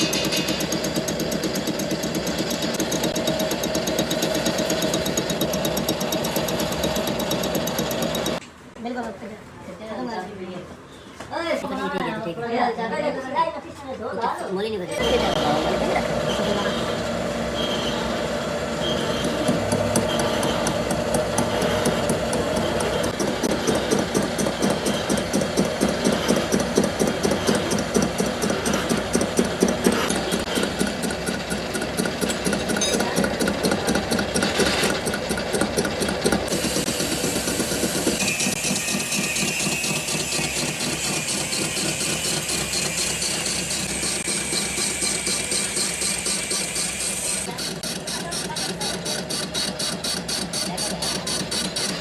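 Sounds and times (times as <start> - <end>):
factory machinery rattling: 0.0 - 8.4, 15.0 - 52.0.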